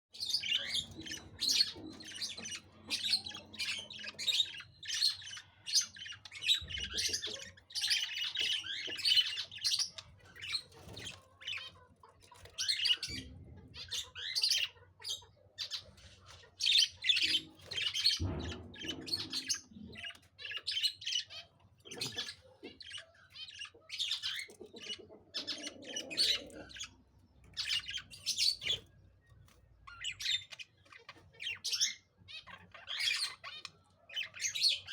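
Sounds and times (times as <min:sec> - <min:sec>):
budgerigars chirping and chattering: 0:00.1 - 0:34.9.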